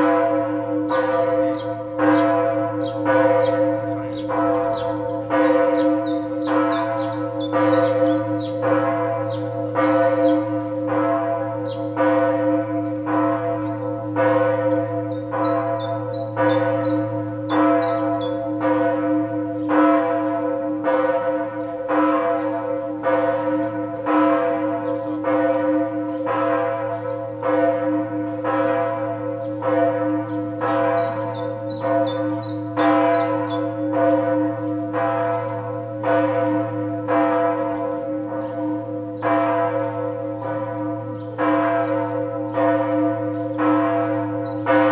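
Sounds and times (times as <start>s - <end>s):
church bell ringing: 0.0s - 44.9s.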